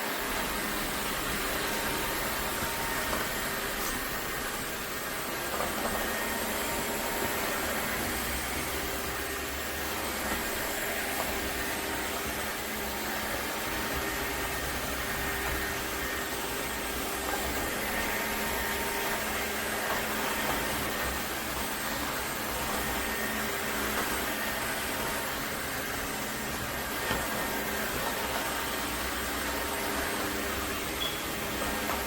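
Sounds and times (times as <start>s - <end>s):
vacuum mop motor running: 0.0s - 32.0s.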